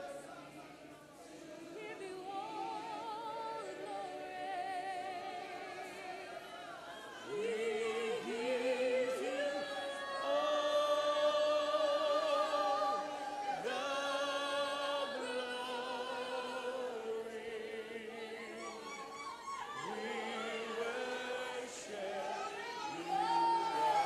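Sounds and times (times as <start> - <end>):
voices singing long notes: 1.2 - 24.0.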